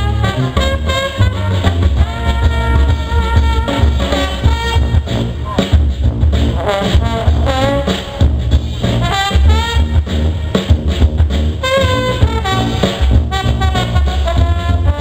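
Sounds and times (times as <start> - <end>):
horns playing sliding phrases: 0.0 - 10.8, 11.5 - 15.0
drum kit steady beat: 0.0 - 15.0.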